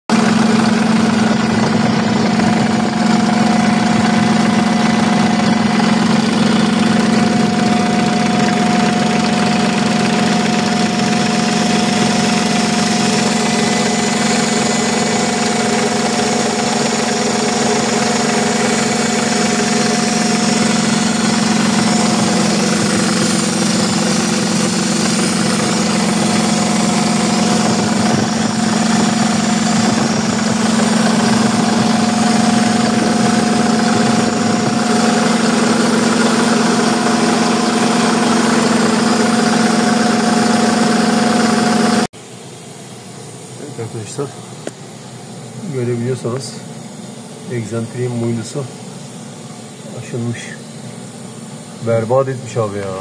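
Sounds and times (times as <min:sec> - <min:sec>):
engine idling with mechanical noise: 0:00.1 - 0:53.0.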